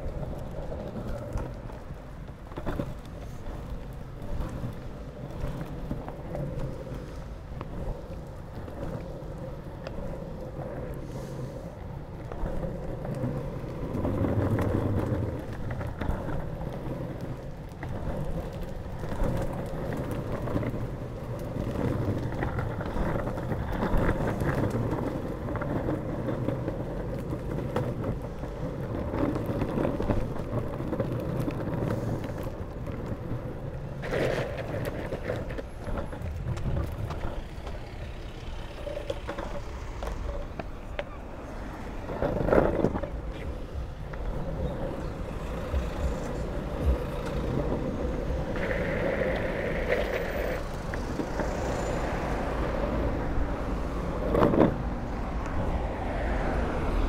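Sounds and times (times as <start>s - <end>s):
longboard wheels rolling on tarmac: 0.0s - 57.0s.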